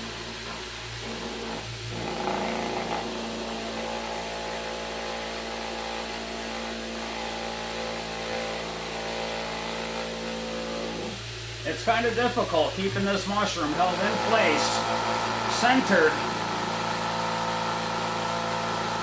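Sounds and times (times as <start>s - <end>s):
vibrating table buzzing: 0.0s - 19.0s.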